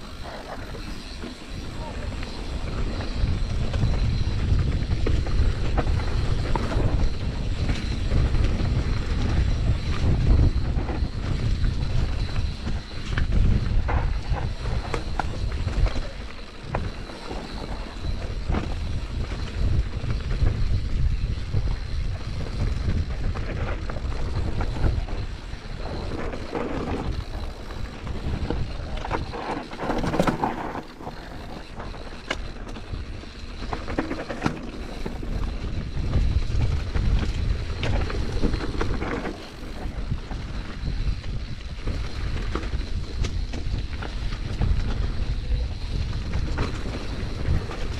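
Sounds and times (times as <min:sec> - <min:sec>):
bike rattling and knocking: 0:00.0 - 0:47.9
wind buffeting microphone: 0:00.0 - 0:47.9.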